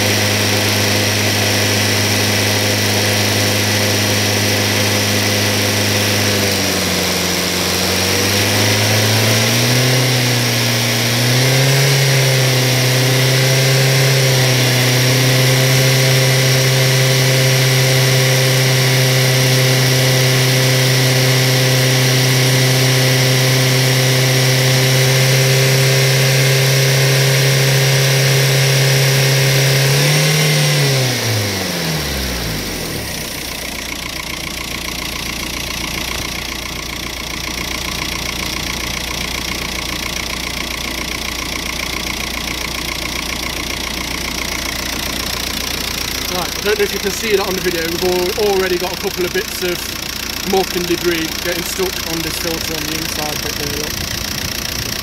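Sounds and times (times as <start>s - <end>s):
diesel engine at raised revs: 0.0s - 55.0s.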